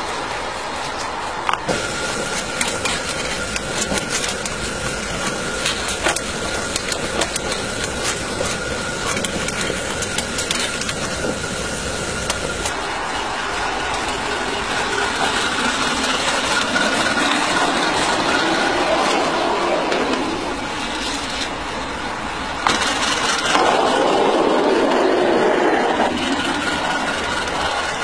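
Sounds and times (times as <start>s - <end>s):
fire clicks and crackles: 0.0s - 19.3s, 20.1s - 28.0s
steam hissing: 0.0s - 28.0s.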